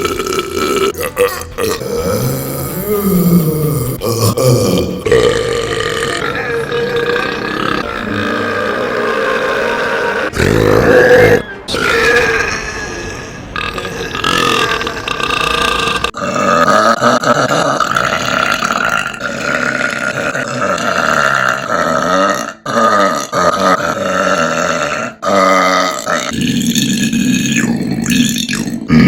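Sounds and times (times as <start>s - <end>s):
person burping: 0.0s - 29.0s.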